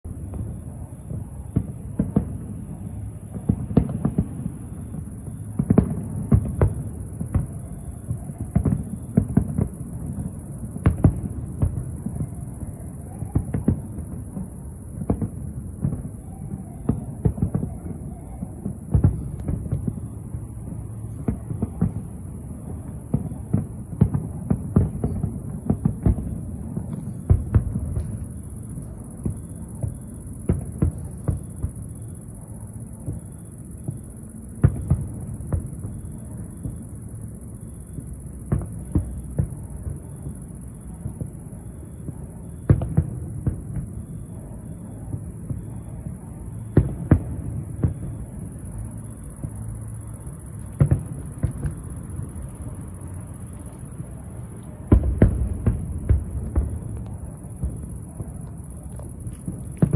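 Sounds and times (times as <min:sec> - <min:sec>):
continuous low rumble: 0:00.0 - 0:59.9
distant fireworks booms: 0:00.1 - 0:59.9.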